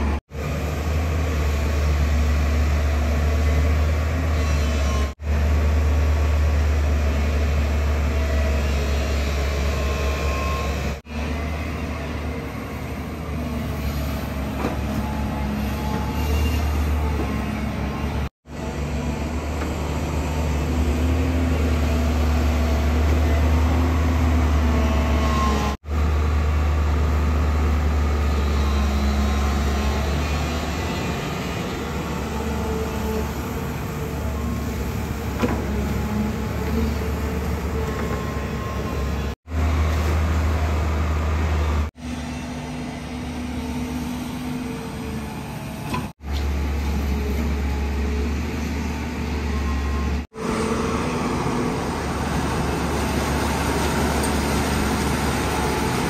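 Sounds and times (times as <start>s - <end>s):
excavator diesel engine under load: 0.0s - 56.0s.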